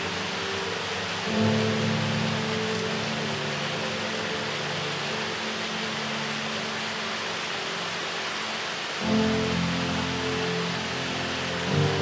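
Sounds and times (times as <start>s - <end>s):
falling water hiss: 0.0s - 12.0s
soft sustained music tones: 0.0s - 12.0s.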